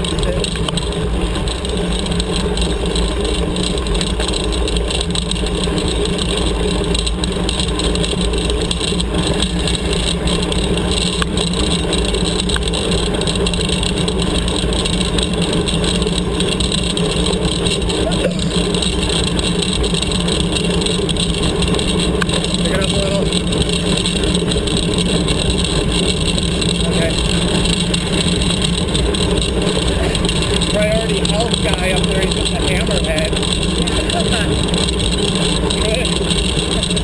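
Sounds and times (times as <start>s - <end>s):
bike tyres crunching on gravel: 0.0s - 37.0s
wind rush and rumble: 0.0s - 37.0s.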